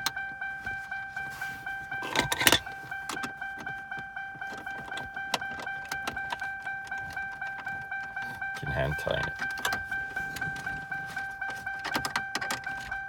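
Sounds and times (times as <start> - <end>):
car warning chime dinging: 0.0 - 13.0.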